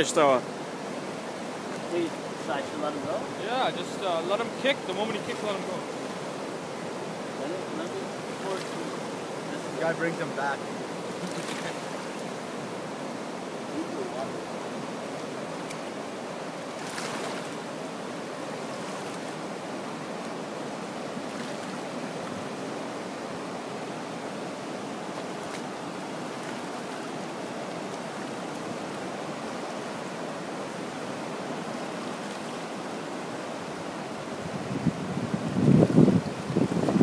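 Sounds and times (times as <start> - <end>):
river water flowing over rocks: 0.0 - 37.0.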